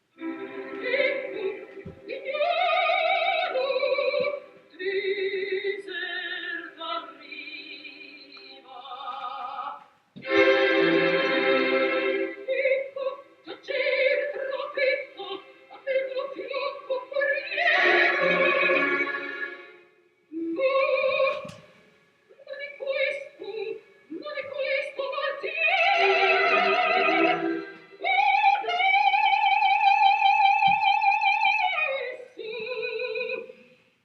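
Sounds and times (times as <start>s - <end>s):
operatic singing with vibrato: 0.0s - 33.8s.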